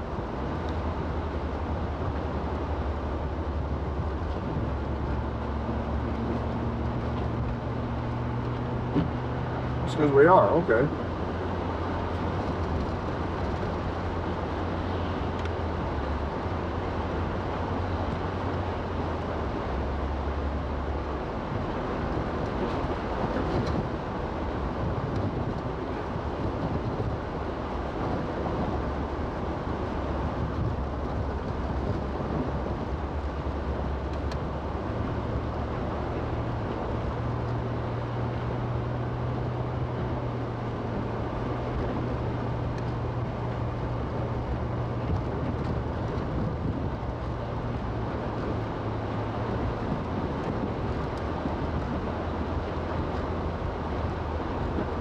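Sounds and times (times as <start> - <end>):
car engine hum: 0.0 - 55.0
tyre and road noise: 0.0 - 55.0.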